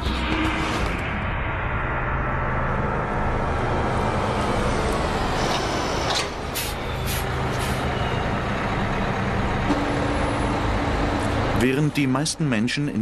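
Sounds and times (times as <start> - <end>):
bus engines idling: 0.0 - 13.0.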